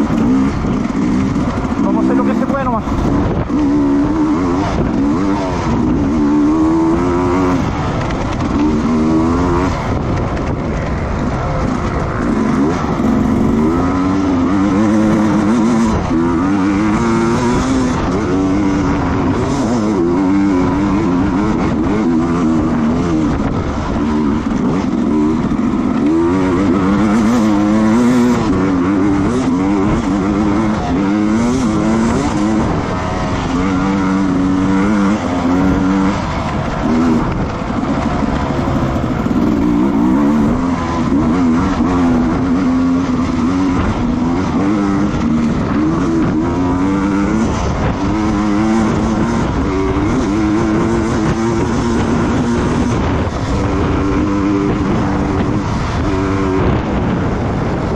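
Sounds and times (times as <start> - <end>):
racing motorcycle engine revving: 0.0 - 57.9
wind noise: 0.0 - 57.9.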